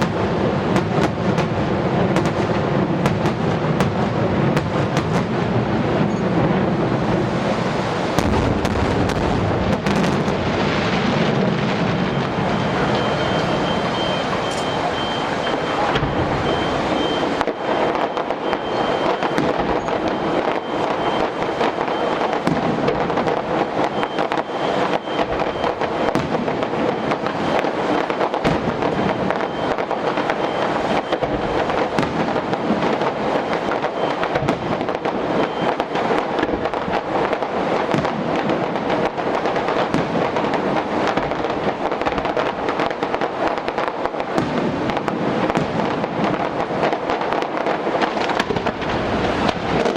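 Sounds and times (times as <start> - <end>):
fireworks crackling and banging: 0.0 - 49.9.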